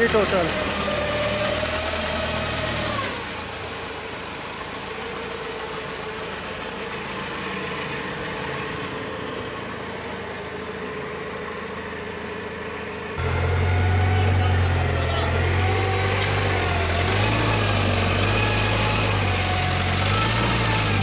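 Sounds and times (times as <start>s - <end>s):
forklift engine idling: 0.0s - 21.0s.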